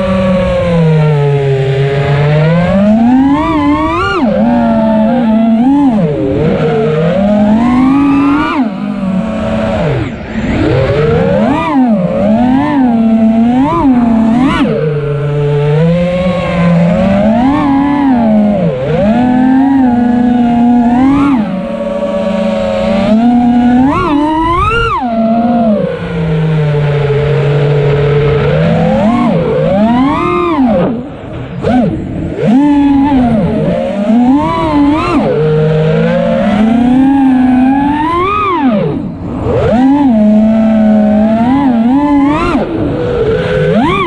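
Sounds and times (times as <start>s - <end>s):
drone motors whining: 0.0s - 44.0s.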